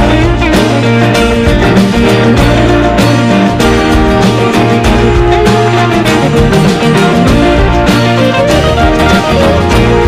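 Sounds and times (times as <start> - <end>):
plucked guitar: 0.0 - 10.0
steady beat: 0.0 - 10.0.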